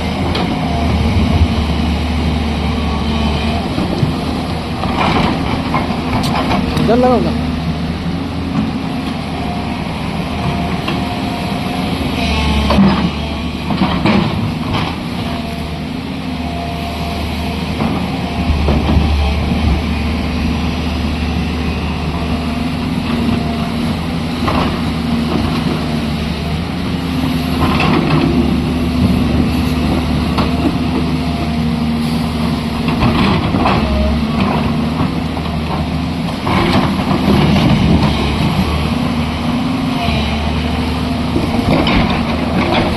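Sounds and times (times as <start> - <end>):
heavy machine engine running: 0.0 - 42.9.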